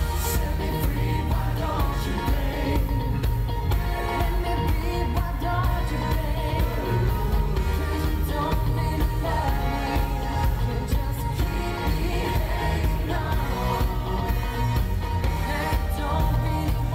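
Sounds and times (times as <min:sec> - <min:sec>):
male vocal group singing: 0:00.0 - 0:16.9
pop band backing: 0:00.0 - 0:16.9.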